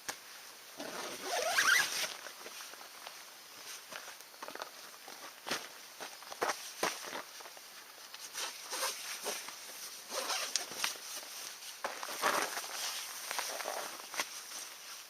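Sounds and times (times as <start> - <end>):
crunching and rustling of gear: 0.8 - 15.0.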